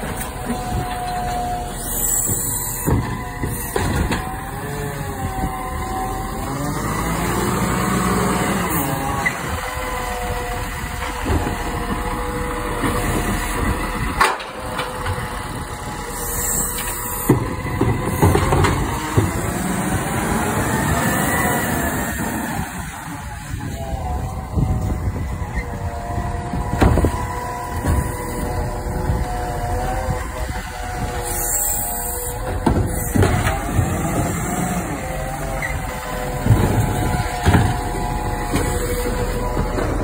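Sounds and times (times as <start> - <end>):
garbage truck diesel engine running: 0.0 - 40.0
hydraulic whine: 0.0 - 40.0.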